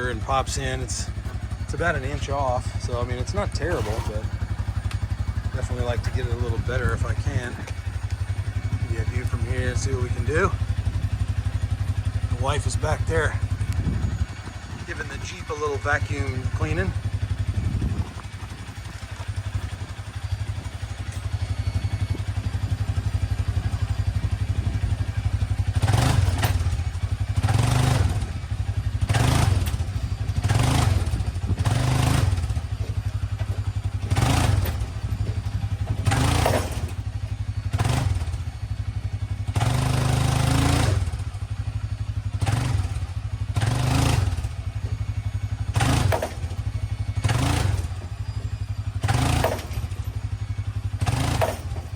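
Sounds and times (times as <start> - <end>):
four-wheeler engine revving: 0.0 - 51.9.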